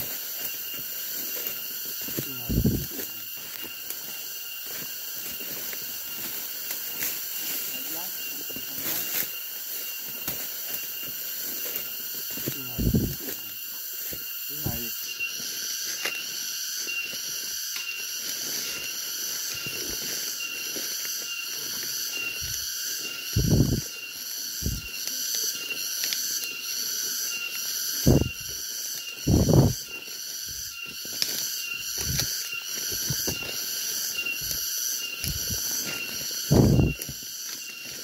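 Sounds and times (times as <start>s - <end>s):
footsteps through undergrowth: 0.0s - 38.0s
forest insects chorus: 0.0s - 38.0s.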